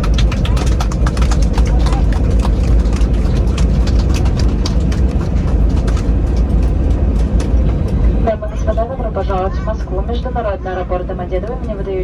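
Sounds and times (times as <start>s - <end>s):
airplane cabin rumble while taxiing: 0.0s - 12.0s.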